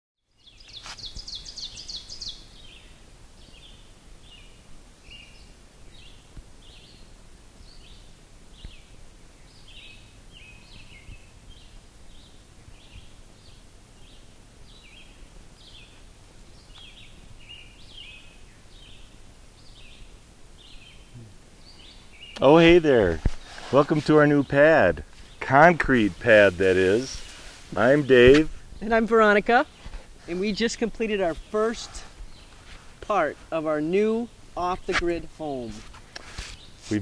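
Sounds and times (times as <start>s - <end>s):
birds chirping: 0.4s - 37.0s.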